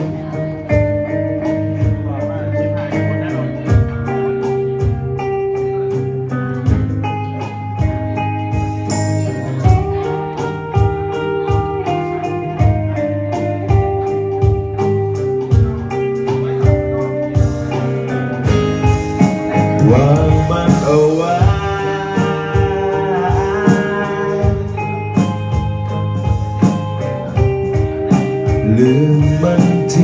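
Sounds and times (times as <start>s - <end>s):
bass guitar: 0.0s - 30.0s
electric guitar melody: 0.0s - 30.0s
drum beat with cymbal ticks: 2.9s - 30.0s.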